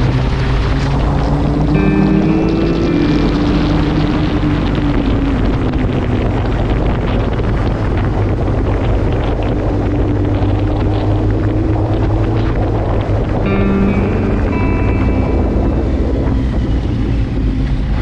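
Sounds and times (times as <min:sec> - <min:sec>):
motorcycle engine at speed: 0:00.0 - 0:18.0
wind noise on microphone: 0:00.0 - 0:18.0.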